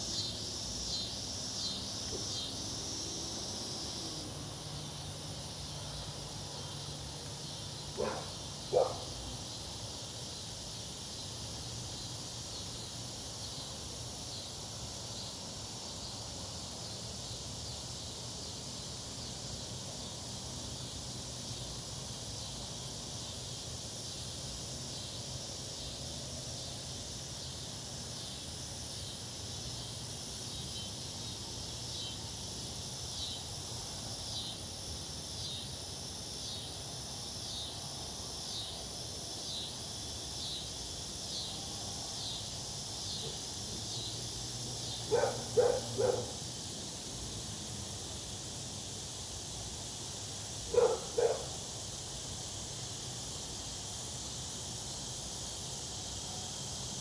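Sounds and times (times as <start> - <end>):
insects buzzing drone: 0.0 - 57.0
quick repeated insect chirps: 0.0 - 57.0.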